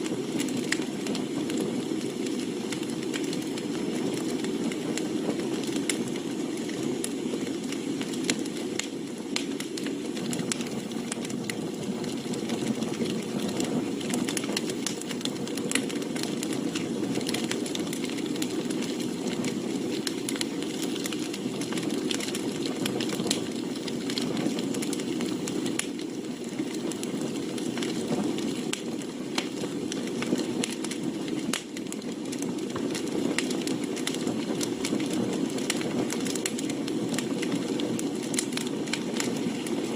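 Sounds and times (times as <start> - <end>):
fire low rush: 0.0 - 39.9
wood fire crackling and popping: 0.0 - 39.9.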